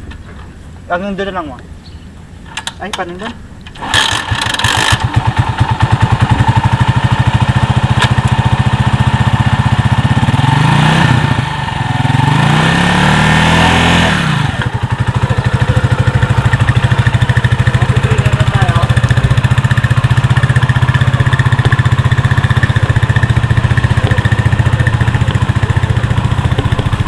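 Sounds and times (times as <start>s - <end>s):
motorcycle tricycle engine revving: 3.8s - 27.0s.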